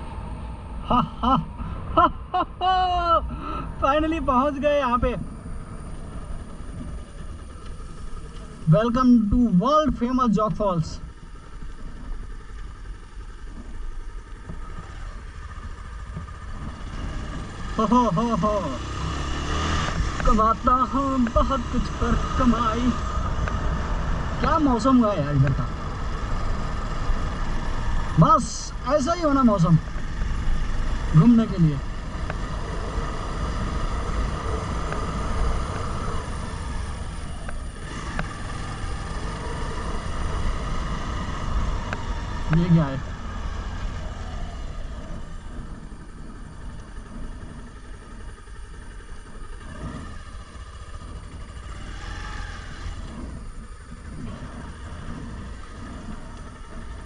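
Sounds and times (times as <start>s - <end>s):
motorcycle engine rumble: 0.0s - 57.0s.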